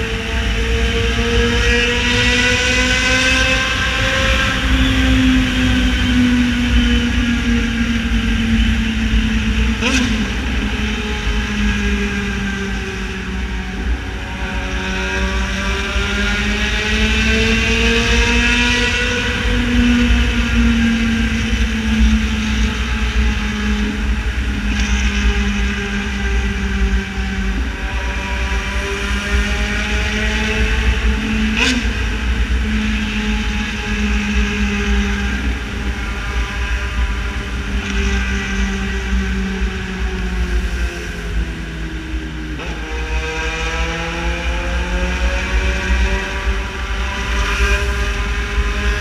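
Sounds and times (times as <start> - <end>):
motorcycle engine cruising: 0.0 - 49.0.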